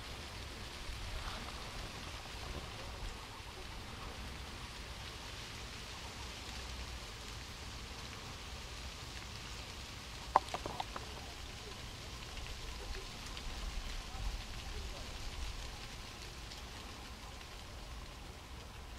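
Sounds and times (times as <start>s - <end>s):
outdoor background hiss: 0.0s - 18.9s.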